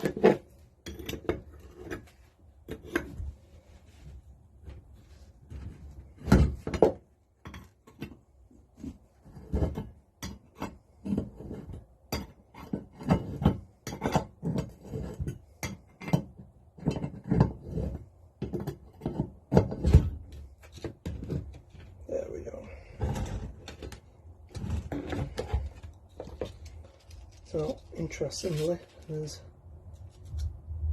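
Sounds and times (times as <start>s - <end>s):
hand tools and metal parts clinking: 0.0s - 3.4s, 5.5s - 30.6s.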